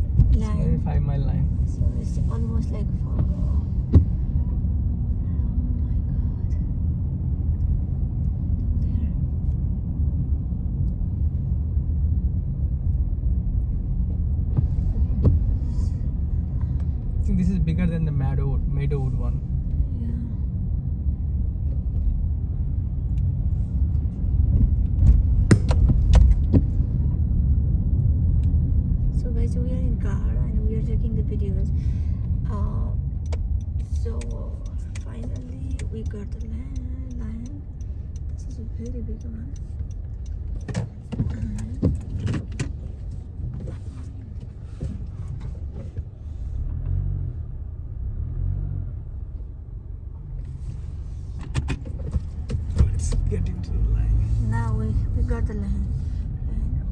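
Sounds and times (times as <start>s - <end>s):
road and engine rumble: 0.0s - 56.9s.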